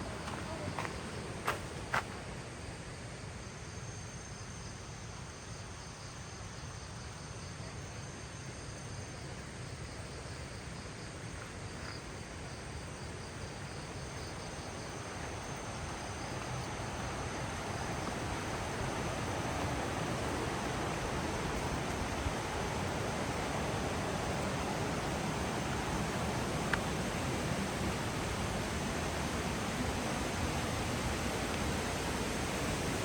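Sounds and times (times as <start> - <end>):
background hiss: 0.0 - 33.0
crickets trilling: 0.0 - 33.0.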